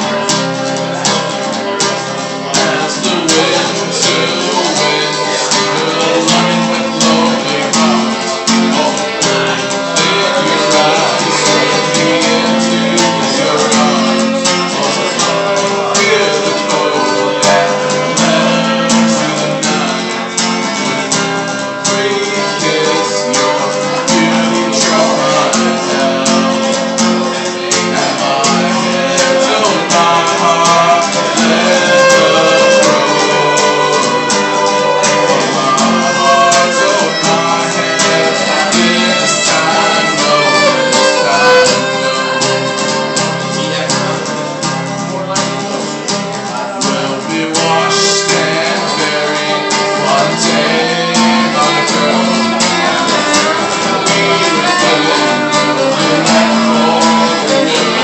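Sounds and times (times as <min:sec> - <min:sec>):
folk song with guitar and strings: 0:00.0 - 0:58.0.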